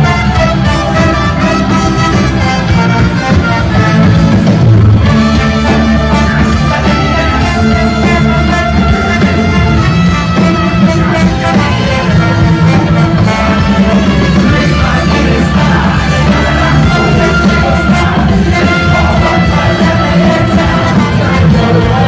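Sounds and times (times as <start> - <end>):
bass guitar: 0.0 - 22.0
drums: 0.0 - 22.0
electric guitar: 0.0 - 22.0
trombone: 0.0 - 22.0
trumpet: 0.0 - 22.0
tuba: 0.0 - 22.0.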